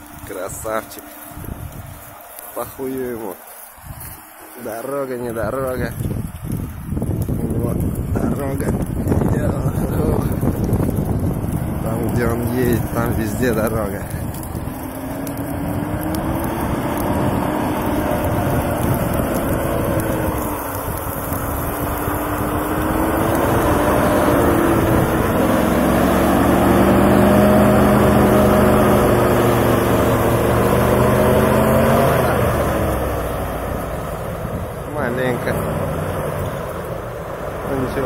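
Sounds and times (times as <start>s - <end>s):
all-terrain vehicle engine under load: 0.0s - 38.0s.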